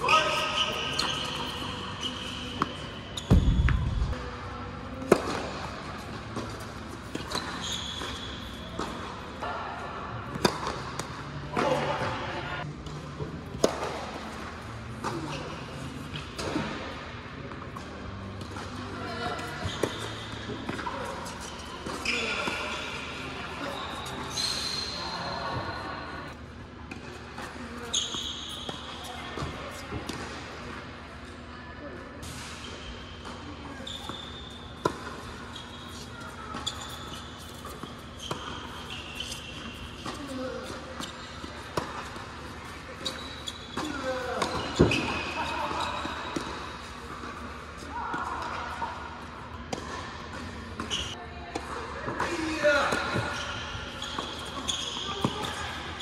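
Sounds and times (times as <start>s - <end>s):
shoes squeaking on hard court: 0.0s - 4.3s, 5.0s - 9.5s, 10.3s - 31.4s, 32.2s - 56.0s.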